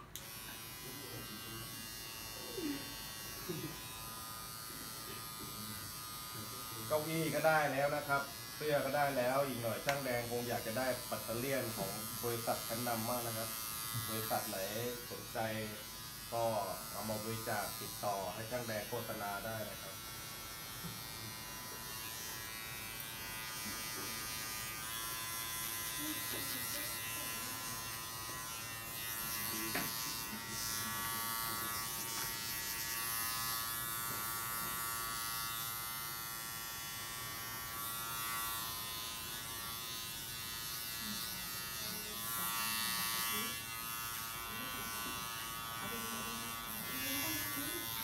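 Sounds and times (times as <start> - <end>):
hair clipper buzzing: 0.0 - 48.0.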